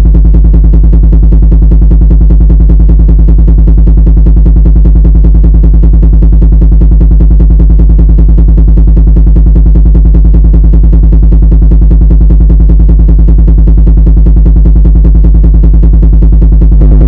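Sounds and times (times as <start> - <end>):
low drone with pulsing rattle: 0.0 - 17.0.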